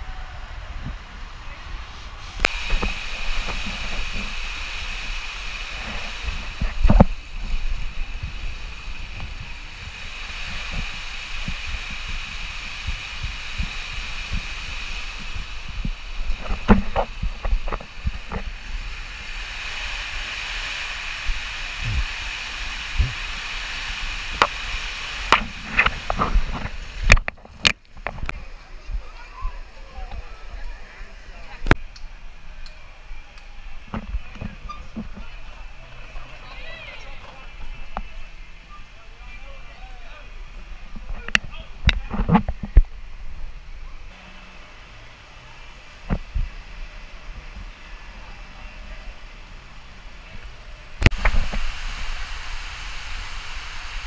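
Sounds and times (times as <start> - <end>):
water rushing through slide tube: 0.0 - 54.0.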